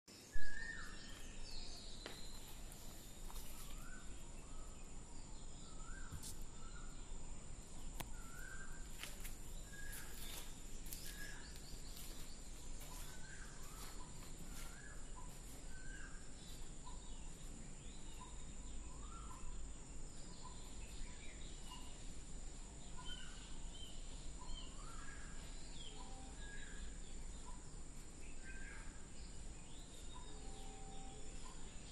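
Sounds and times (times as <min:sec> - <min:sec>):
birds chirping: 0:00.1 - 0:31.9.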